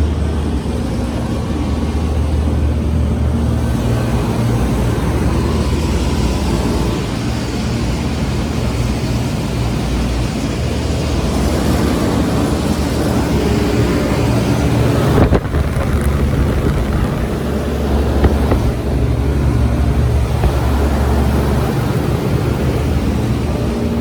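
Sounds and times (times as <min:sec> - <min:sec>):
air conditioning units humming: 0:00.0 - 0:24.0.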